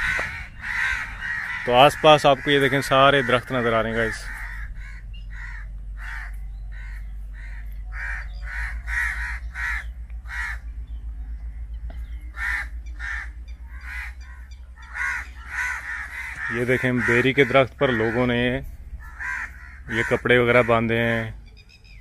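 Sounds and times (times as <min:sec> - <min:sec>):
crows cawing: 0:00.0 - 0:10.7, 0:11.9 - 0:21.6
steady low rumble: 0:00.0 - 0:22.0.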